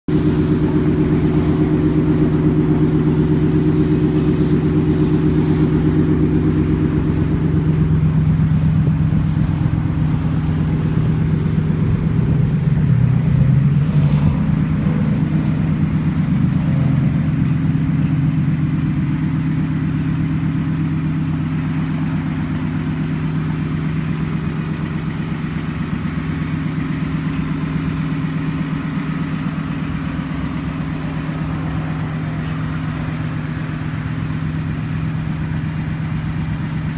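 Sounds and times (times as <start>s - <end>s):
truck exhaust idling: 0.1s - 36.9s.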